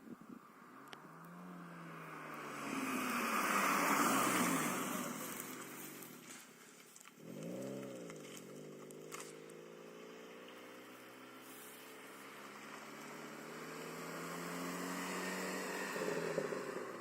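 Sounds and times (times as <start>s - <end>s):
car engine revving: 0.6s - 6.4s, 7.0s - 17.0s.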